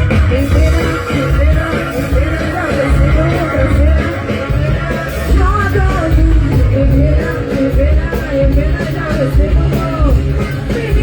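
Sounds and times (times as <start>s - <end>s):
live band playing dance music: 0.0s - 11.0s.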